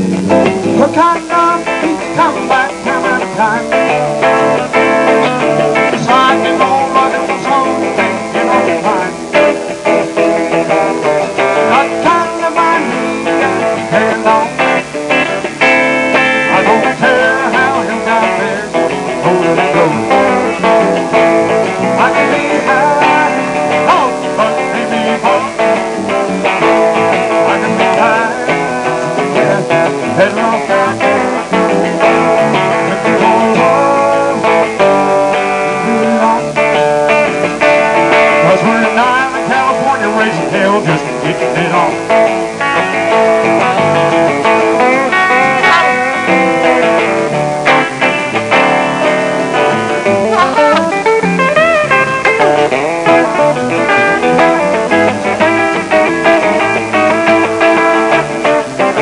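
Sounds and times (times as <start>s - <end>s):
electric guitar bending notes: 0.0s - 59.0s
live band playing: 0.0s - 59.0s
strummed acoustic guitar: 0.0s - 59.0s.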